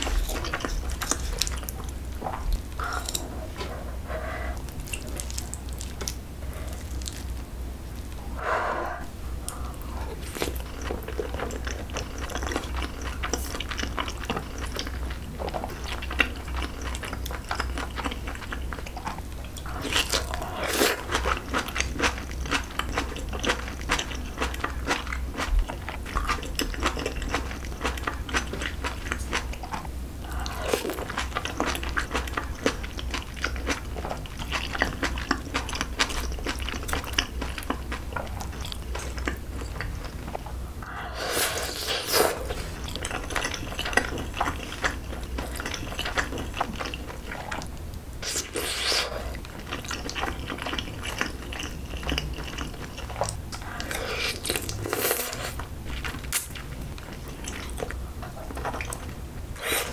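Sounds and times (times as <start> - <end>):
chewing rice and kimchi: 0.0 - 8.3, 9.4 - 59.9
steady low hum: 0.0 - 59.9.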